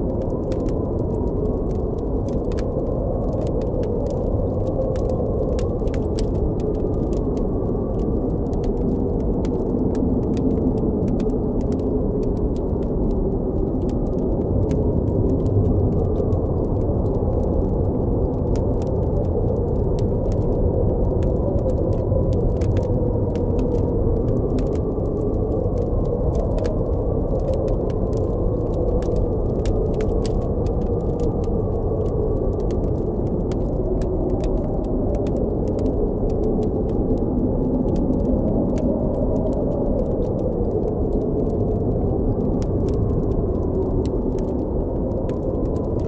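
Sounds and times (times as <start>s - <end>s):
campfire crackling and popping: 0.0s - 46.0s
howling blizzard wind: 0.0s - 46.0s.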